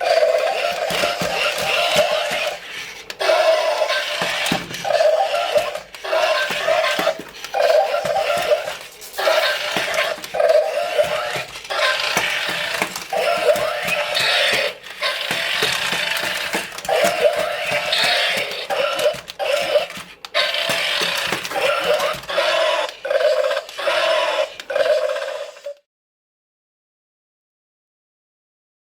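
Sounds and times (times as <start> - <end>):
toy robot roar-like bursts: 0.0 - 25.8.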